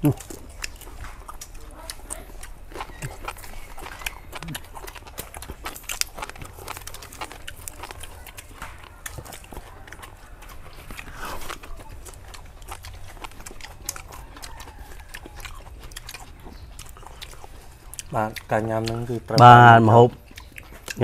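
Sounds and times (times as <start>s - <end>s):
chewing and lip smacking: 0.0s - 21.0s.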